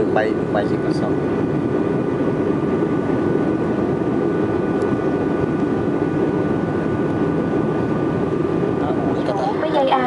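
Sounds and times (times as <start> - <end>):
jet airliner cabin noise: 0.0 - 10.0.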